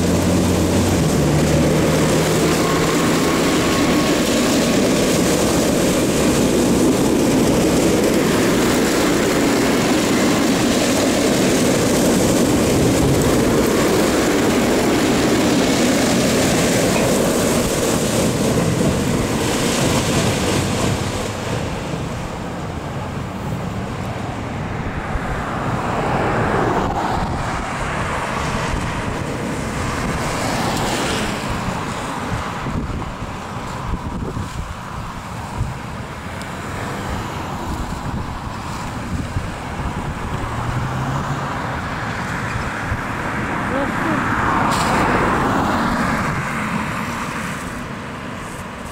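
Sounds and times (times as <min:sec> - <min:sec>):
heavy diesel trucks rumbling: 0:00.0 - 0:48.9
wind buffeting microphone: 0:00.0 - 0:48.9.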